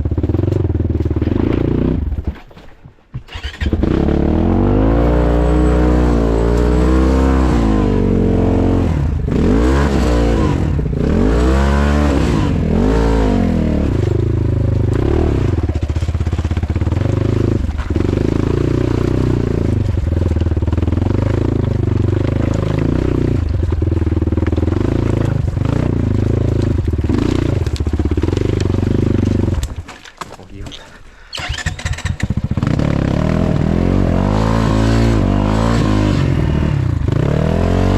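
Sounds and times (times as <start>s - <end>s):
motorcycle engine revving: 0.0s - 2.3s, 3.3s - 29.8s, 31.3s - 37.9s.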